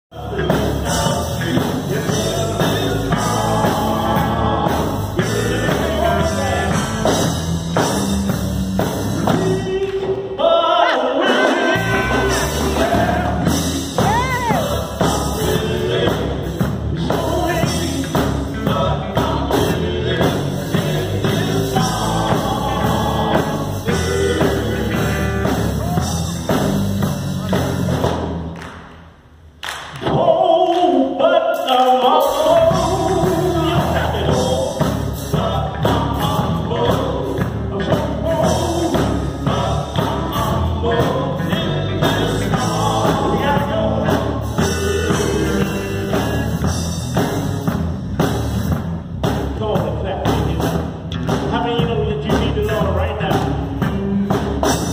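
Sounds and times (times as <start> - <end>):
drums: 0.0 - 54.9
male vocal group singing gospel: 0.1 - 28.2, 30.0 - 54.9.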